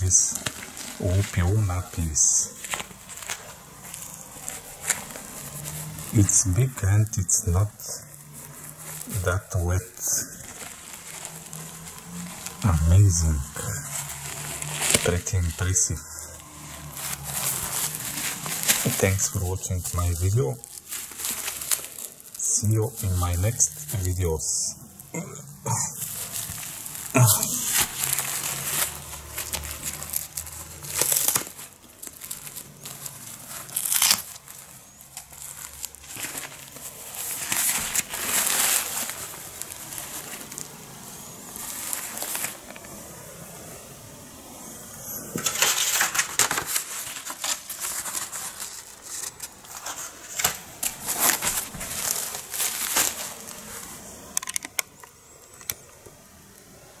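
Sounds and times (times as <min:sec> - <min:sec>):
plastic nappies crinkling: 0:00.0 - 0:44.4, 0:45.1 - 0:57.0.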